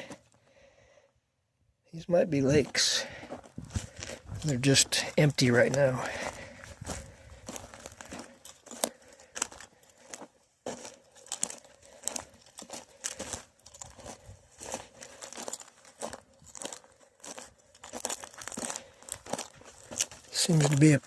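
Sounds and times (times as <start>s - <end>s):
footsteps crunching on dry ground: 2.1s - 21.0s.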